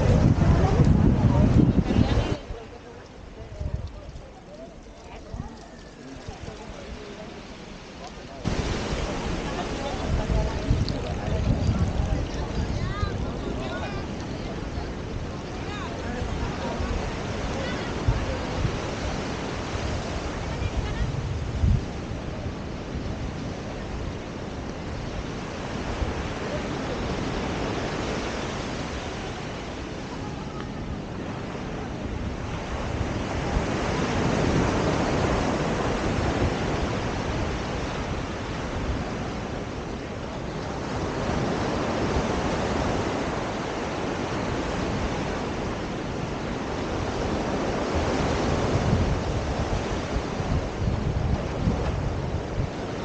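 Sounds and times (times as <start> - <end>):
ocean surf washing onto beach: 0.0 - 53.0
wind buffeting microphone: 0.0 - 53.0.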